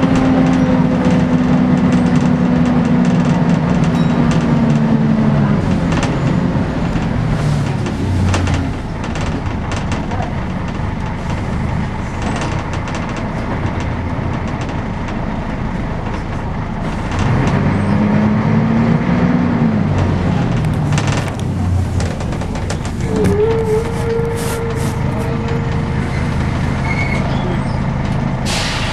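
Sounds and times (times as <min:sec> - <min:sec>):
interior rattles: 0:00.0 - 0:18.2, 0:19.7 - 0:28.4
bus diesel engine: 0:00.0 - 0:28.9
road rumble: 0:00.0 - 0:28.9.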